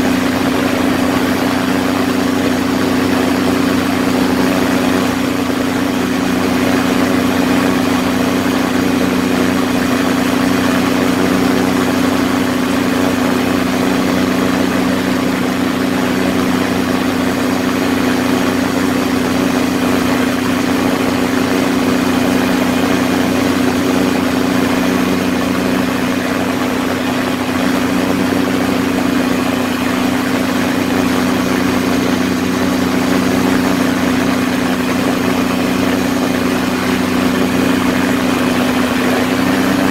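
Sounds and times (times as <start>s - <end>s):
ultralight engine and propeller drone: 0.0s - 39.9s.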